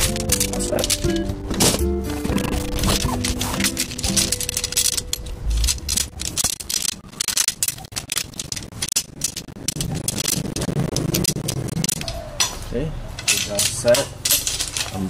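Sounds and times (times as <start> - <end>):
tent poles clattering: 0.0 - 15.0.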